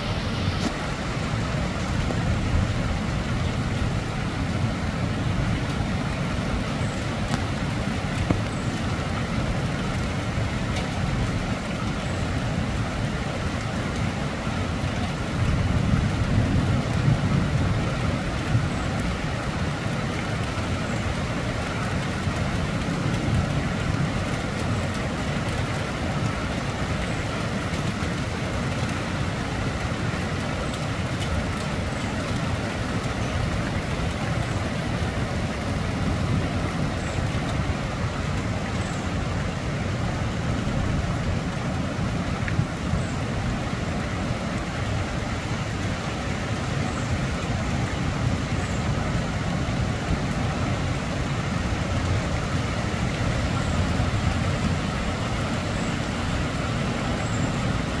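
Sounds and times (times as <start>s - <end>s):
wind and rain: 0.0s - 58.0s.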